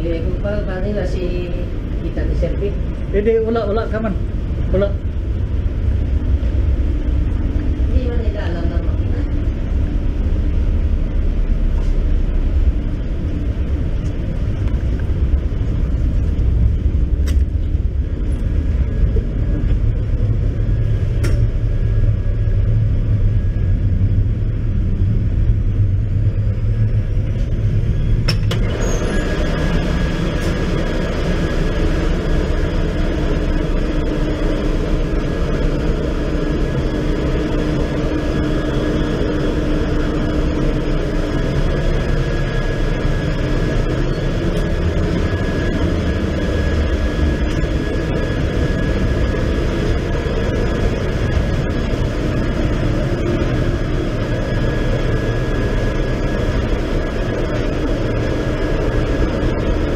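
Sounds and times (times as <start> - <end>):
engine room machinery rumble: 0.0 - 59.9
steady tone: 0.0 - 59.9.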